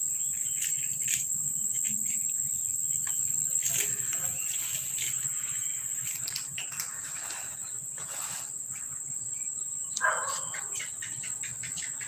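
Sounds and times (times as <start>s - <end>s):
high-pitched insect trill: 0.0s - 11.5s.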